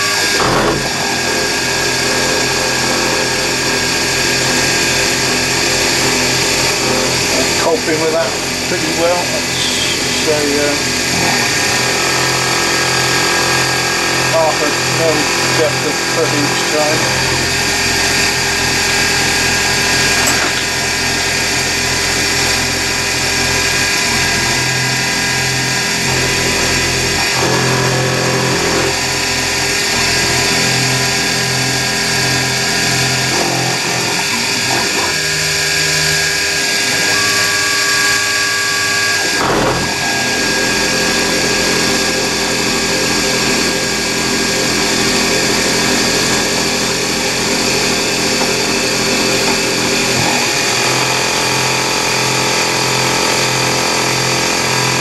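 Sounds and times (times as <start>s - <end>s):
metal cutting noise: 0.0s - 55.0s
milling machine spindle whine: 0.0s - 55.0s.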